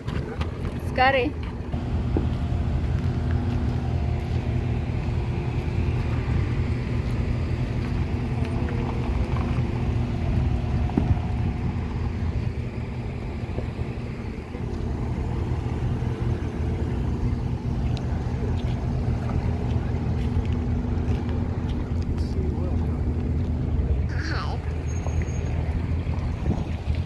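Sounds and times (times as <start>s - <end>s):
vehicle engines humming: 0.0s - 27.0s.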